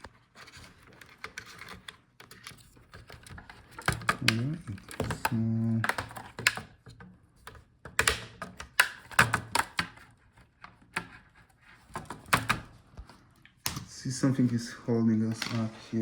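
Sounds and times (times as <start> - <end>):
hands handling laptop parts: 0.0 - 13.9.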